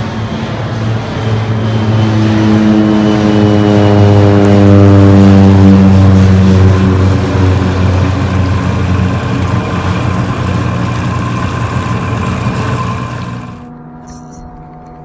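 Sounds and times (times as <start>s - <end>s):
boat motor droning: 0.0s - 13.7s.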